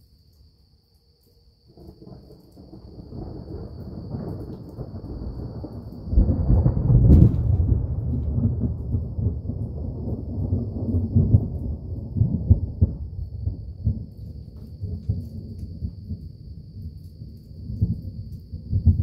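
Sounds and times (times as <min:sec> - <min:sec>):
deep rolling thunder: 0:01.8 - 0:16.9, 0:17.6 - 0:19.0.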